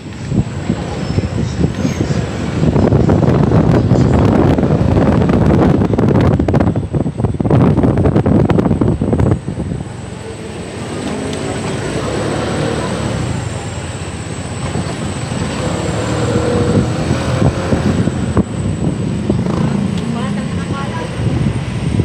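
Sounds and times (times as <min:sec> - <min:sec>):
vehicle engine and road noise: 0:00.0 - 0:22.0
wind buffeting microphone: 0:00.0 - 0:22.0.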